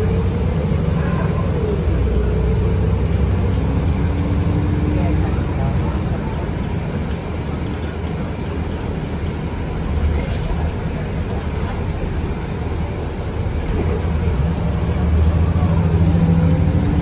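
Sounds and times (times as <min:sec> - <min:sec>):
bus diesel engine drone: 0:00.0 - 0:17.0
road and cabin noise: 0:00.0 - 0:17.0.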